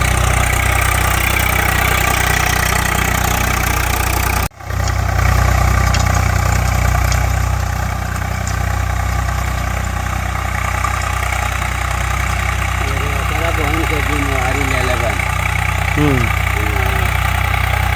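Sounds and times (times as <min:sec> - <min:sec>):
tractor diesel engine rumbling: 0:00.0 - 0:17.9.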